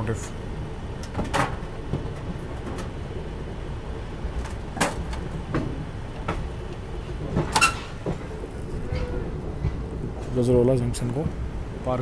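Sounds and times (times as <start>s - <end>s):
train wheels rumbling on track: 0.0s - 12.0s
wheels clacking over rail joints: 0.0s - 12.0s.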